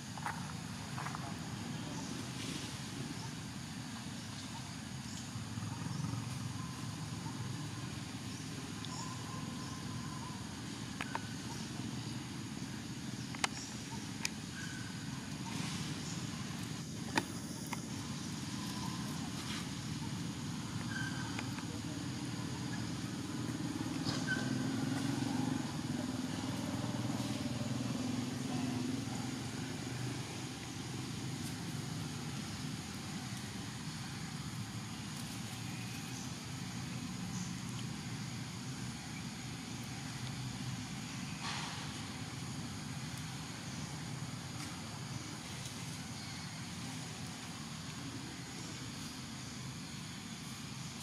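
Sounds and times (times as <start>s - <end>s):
vehicle engine droning: 5.2s - 48.7s.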